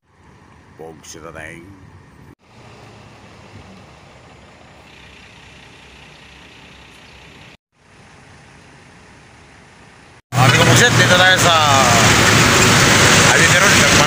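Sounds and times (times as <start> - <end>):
vehicle rumble and hiss: 0.0 - 14.0.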